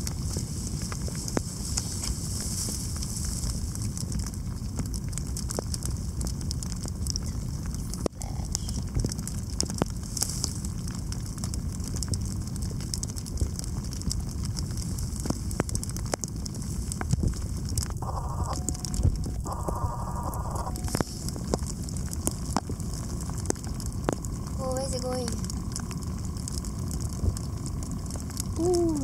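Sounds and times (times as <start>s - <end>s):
fine crackling clicks: 0.0s - 29.0s
wind rumbling on microphone: 0.0s - 29.0s.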